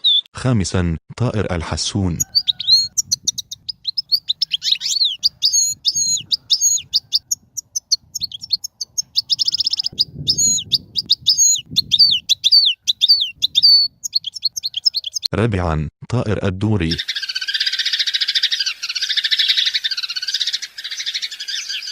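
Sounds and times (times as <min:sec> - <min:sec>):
finch twittering song: 0:00.0 - 0:00.3, 0:02.2 - 0:15.3, 0:16.9 - 0:21.9
buzzy bird trill: 0:02.1 - 0:15.3, 0:16.9 - 0:21.9.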